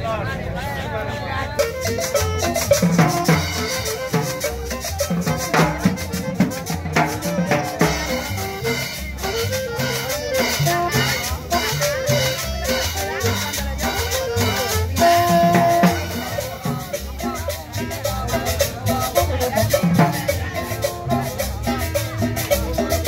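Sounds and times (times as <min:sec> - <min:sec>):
latin dance music: 0:01.5 - 0:23.0.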